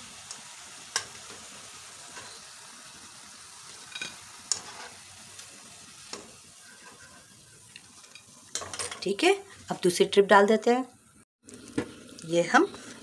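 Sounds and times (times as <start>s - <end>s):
food sizzling in deep oil: 0.0s - 13.0s.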